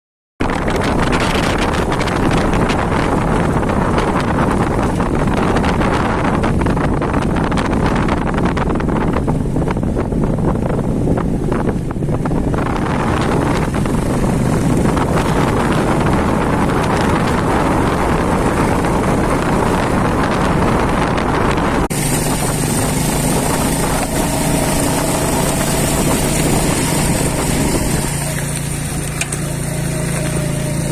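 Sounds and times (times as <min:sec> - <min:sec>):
motorcycle engine running: 0:00.4 - 0:30.9
wind noise on microphone: 0:00.4 - 0:30.9.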